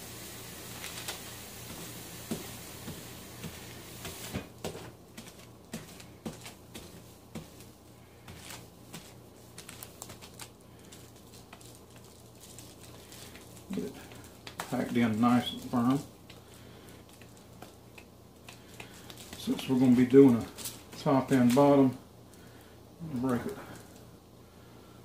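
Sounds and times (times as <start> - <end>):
steady hiss: 0.0 - 25.0
hands packing dough: 0.1 - 25.0.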